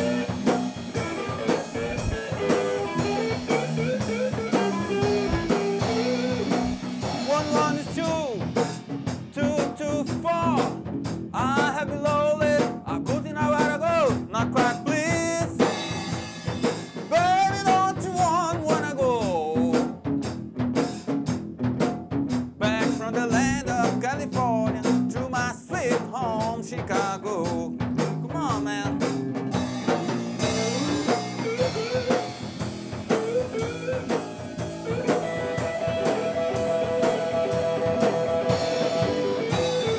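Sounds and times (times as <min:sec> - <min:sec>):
bending lead guitar line: 0:00.0 - 0:39.9
blues-rock band playing: 0:00.0 - 0:39.9
steady drum beat: 0:00.0 - 0:39.9.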